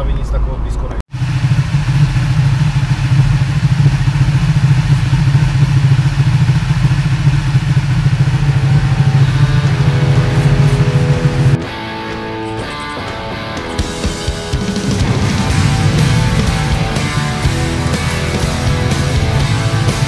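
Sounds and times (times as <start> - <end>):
motorcycle engine idling: 1.1 - 11.6, 13.4 - 20.0.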